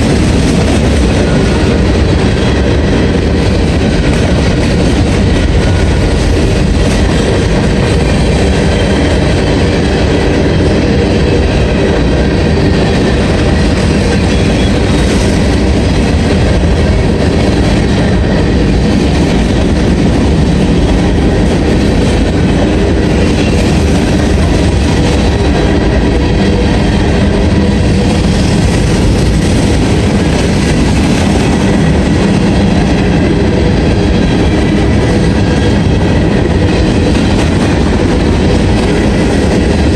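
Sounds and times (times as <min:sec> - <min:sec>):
steel train wheels on rails: 0:00.0 - 0:39.9.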